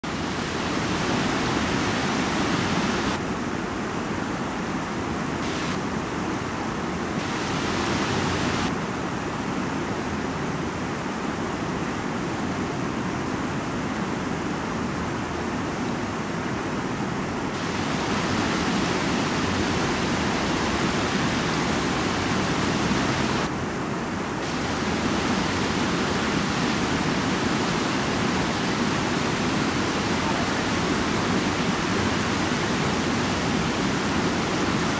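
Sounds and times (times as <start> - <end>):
fast-flowing river rushing: 0.0 - 34.9.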